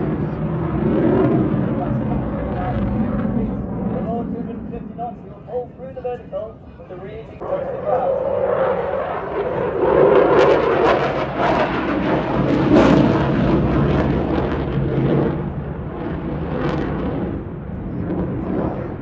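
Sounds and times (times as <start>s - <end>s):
jet flying past: 0.0s - 19.0s.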